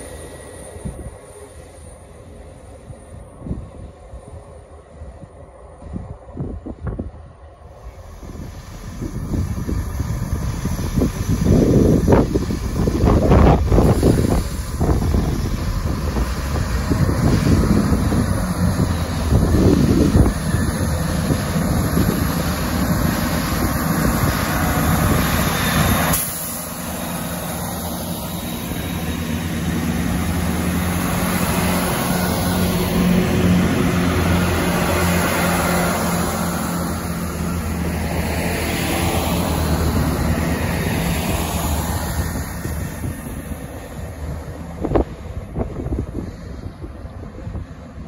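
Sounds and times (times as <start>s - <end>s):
diesel train engine drone: 0.0s - 48.0s.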